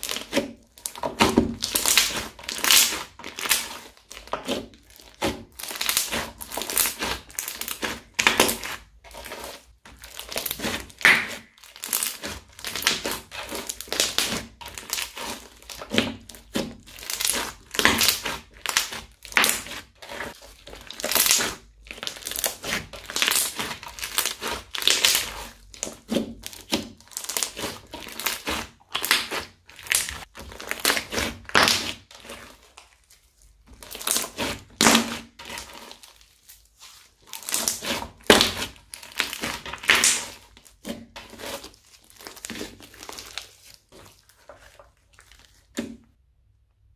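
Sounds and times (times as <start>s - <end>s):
crunchy slime crackling: 0.0s - 46.1s.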